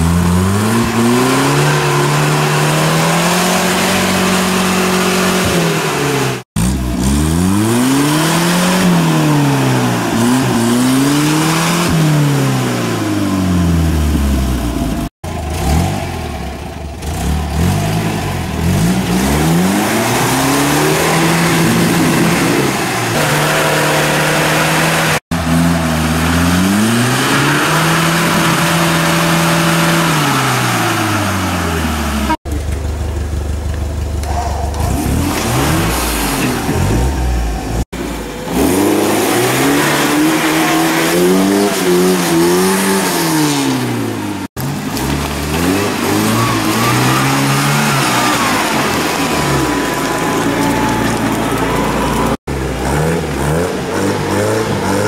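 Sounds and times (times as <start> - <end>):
off-road vehicle engines revving: 0.0 - 55.0.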